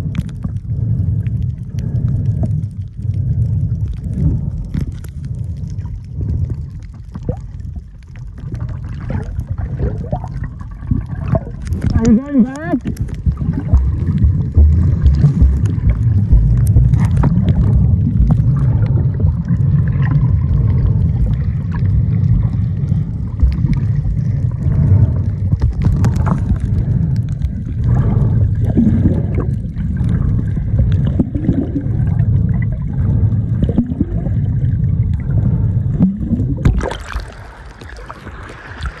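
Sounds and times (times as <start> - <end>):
muffled underwater rumble: 0.0 - 39.0
underwater bubbles: 0.0 - 39.0.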